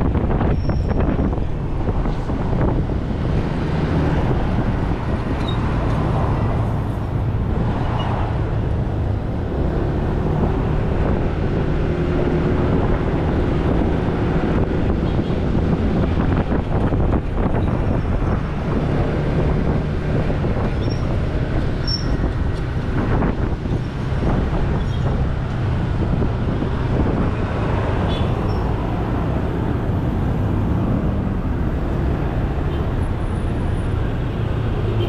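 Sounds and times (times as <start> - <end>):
road noise: 0.0 - 35.0
truck engine hum: 0.0 - 35.0.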